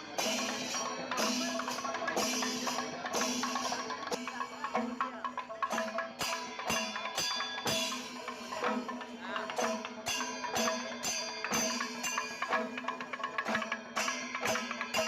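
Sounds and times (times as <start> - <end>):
instrumental music with drum beat: 0.0 - 15.0.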